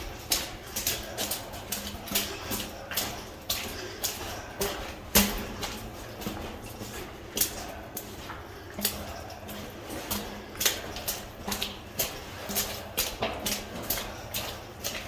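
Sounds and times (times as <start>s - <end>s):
footsteps in wet tunnel: 0.0s - 15.0s.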